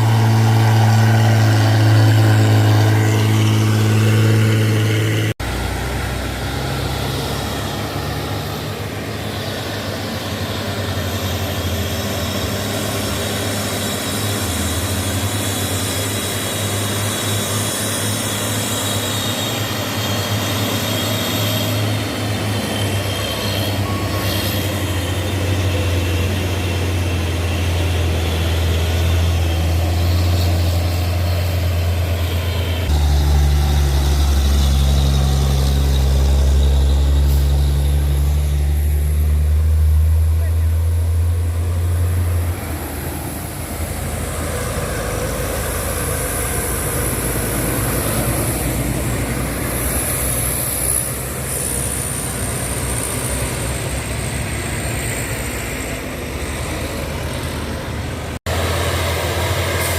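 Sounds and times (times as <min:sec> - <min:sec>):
truck engine under load: 0:00.0 - 0:59.9.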